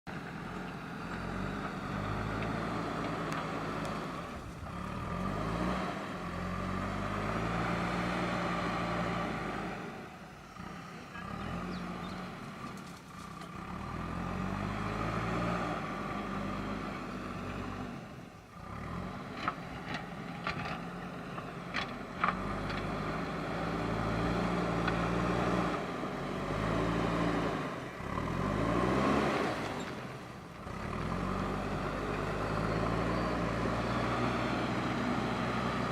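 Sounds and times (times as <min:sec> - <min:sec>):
diesel engine working: 0:00.1 - 0:35.9.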